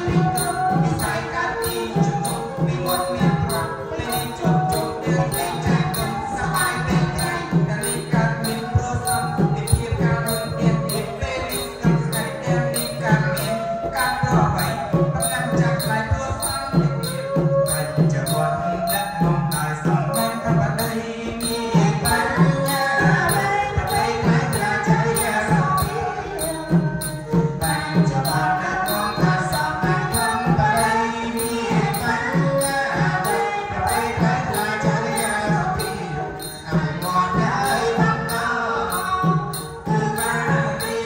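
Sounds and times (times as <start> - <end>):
hand drums beating: 0.0 - 41.0
person singing wavering melody: 0.0 - 41.0.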